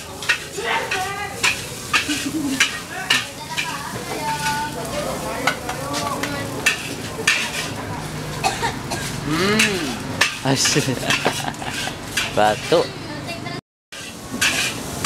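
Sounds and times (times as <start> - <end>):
metal spatula scraping a wok: 0.0 - 8.2, 8.9 - 12.9, 13.9 - 15.0
rice sizzling: 0.0 - 15.0.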